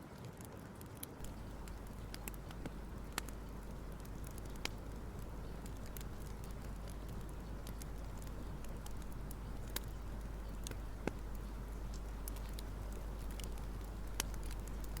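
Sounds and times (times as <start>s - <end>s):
light clicks and ticks: 1.2s - 15.0s
low hum: 1.2s - 15.0s.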